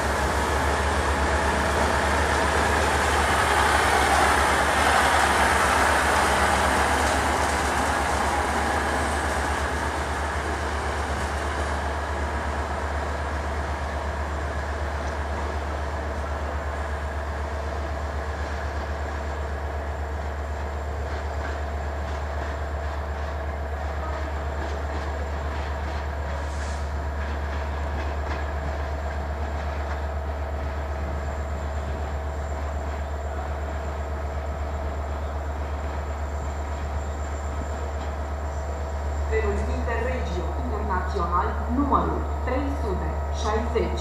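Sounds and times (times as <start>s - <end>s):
train engine and wheels rumbling: 0.0s - 44.0s.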